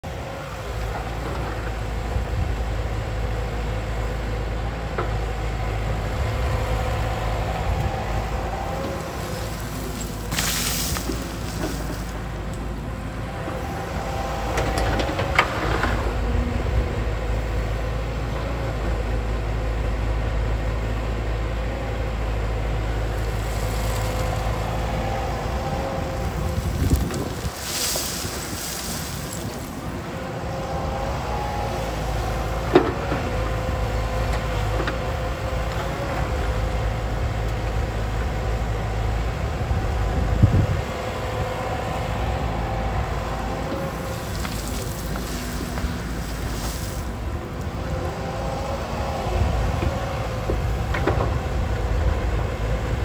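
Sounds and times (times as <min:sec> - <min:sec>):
excavator diesel engine whining: 0:00.0 - 0:53.0.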